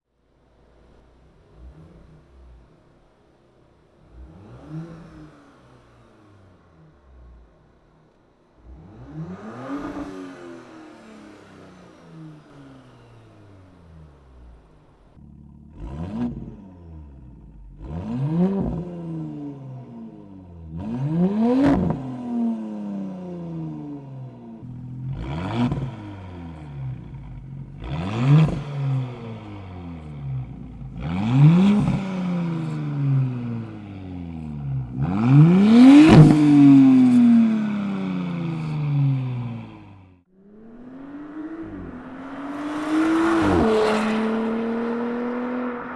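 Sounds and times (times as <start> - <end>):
car engine revving: 0.6 - 45.9.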